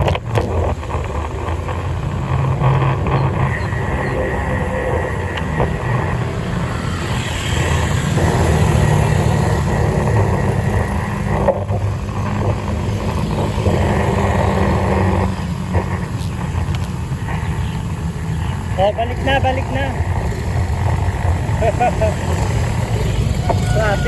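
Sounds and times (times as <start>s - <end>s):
vehicle running noise: 0.0s - 24.0s
wind rush: 0.0s - 24.0s.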